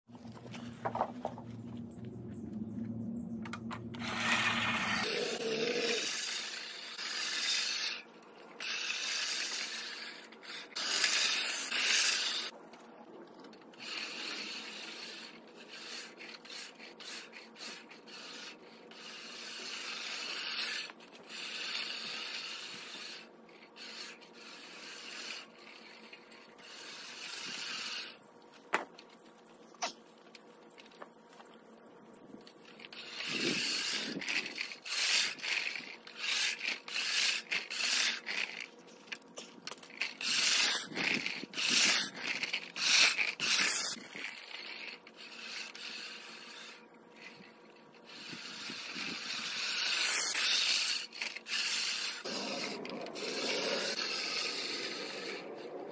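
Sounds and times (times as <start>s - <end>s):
push reel mower cutting grass: 3.9s - 12.6s, 13.4s - 28.8s, 32.2s - 55.9s.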